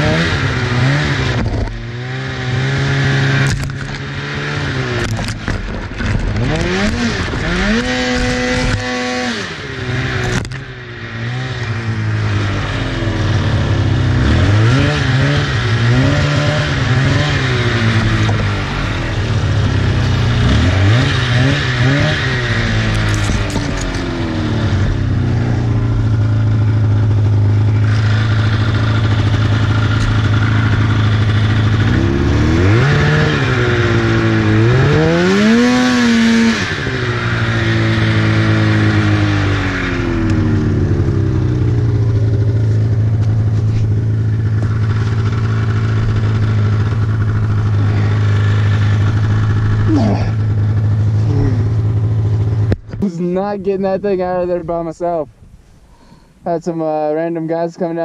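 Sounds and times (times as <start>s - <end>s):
snowmobile engine idling and revving: 0.0s - 58.0s.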